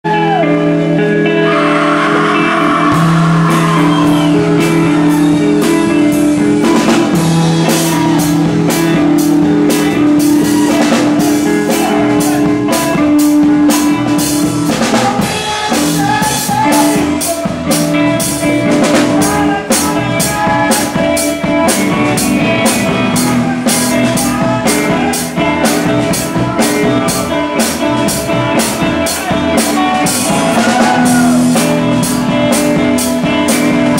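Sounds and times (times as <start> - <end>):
electric guitars sustained notes: 0.1 - 33.9
drum kit beat: 1.5 - 33.9.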